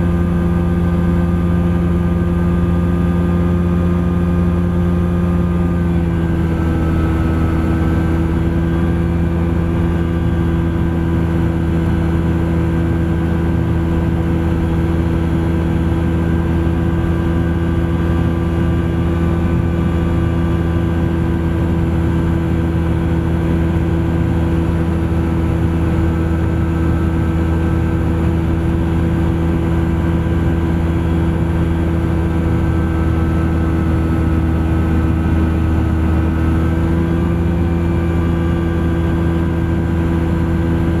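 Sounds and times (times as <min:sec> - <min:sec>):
aircraft engine and propeller droning: 0:00.0 - 0:41.0.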